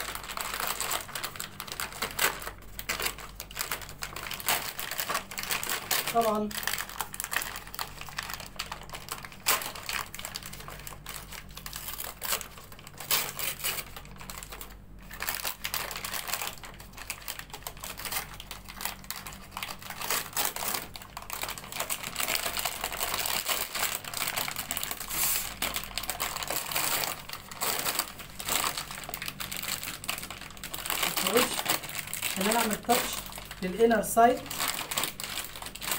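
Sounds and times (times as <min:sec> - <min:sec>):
plastic and cloth wrapper crinkling: 0:00.0 - 0:35.9.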